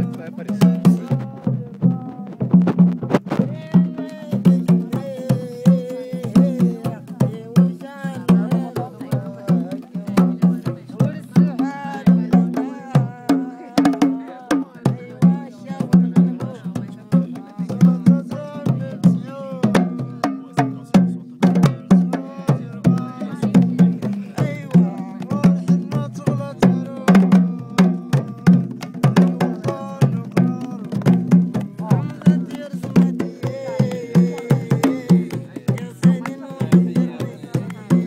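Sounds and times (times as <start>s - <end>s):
hand drums playing fast rhythm: 0.0s - 38.0s
voices chanting: 3.5s - 20.9s, 21.6s - 28.6s, 31.6s - 38.0s.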